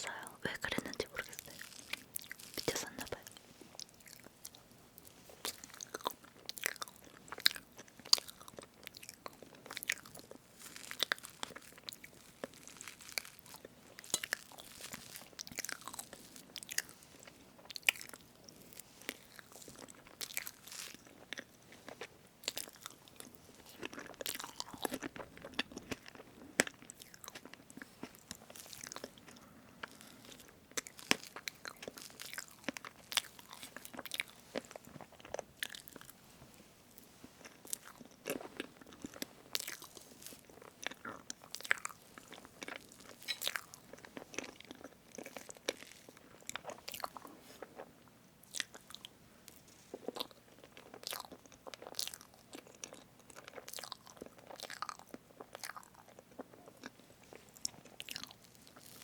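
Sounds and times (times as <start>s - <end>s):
chewing: 0.8s - 36.2s, 36.9s - 59.0s.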